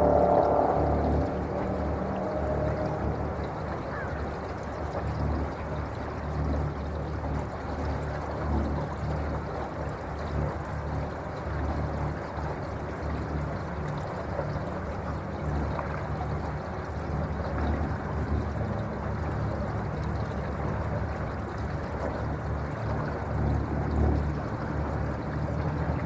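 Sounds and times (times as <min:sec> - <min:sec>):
low uneven rumble: 0:00.0 - 0:26.0
water rushing along boat hull: 0:00.0 - 0:26.0.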